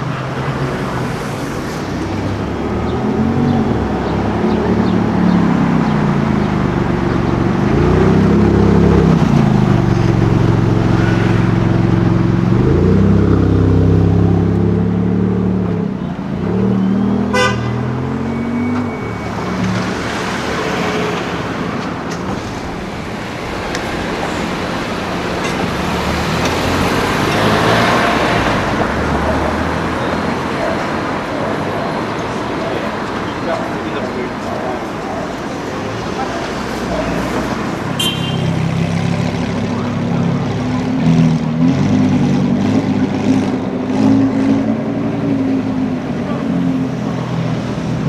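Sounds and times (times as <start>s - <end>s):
car engines running: 0.0s - 48.0s
vehicle passing close: 0.0s - 48.0s.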